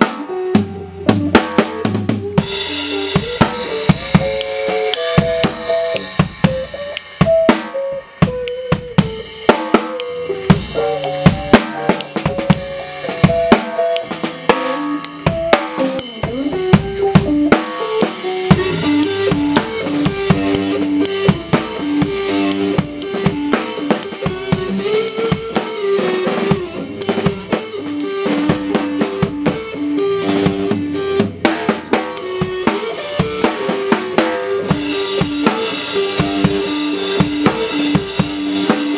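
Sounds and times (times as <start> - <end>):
melodic instrumental line: 0.0 - 38.9
snare and bass drum: 0.0 - 38.9.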